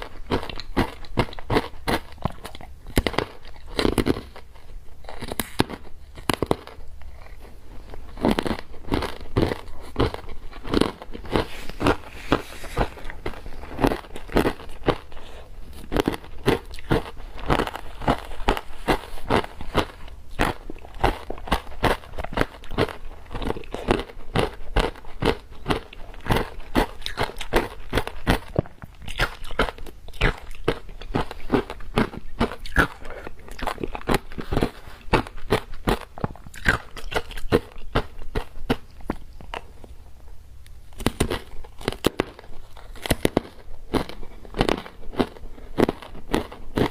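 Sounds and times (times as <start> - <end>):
ice being chewed: 0.0 - 40.0, 41.0 - 46.9.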